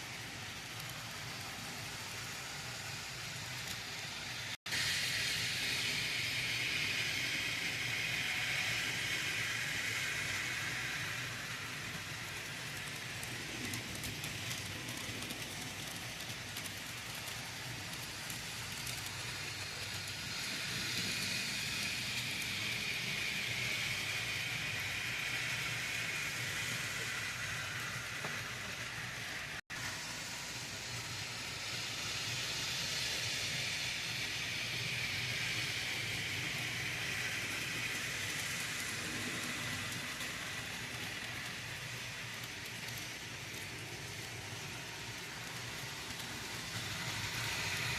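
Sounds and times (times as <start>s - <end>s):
model train whirring on track: 0.0s - 47.9s.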